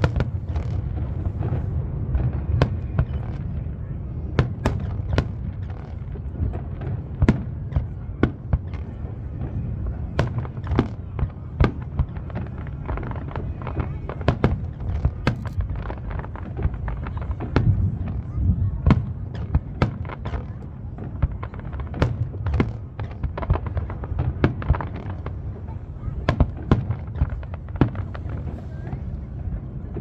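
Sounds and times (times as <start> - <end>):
fireworks bangs and cracks: 0.0 - 30.0.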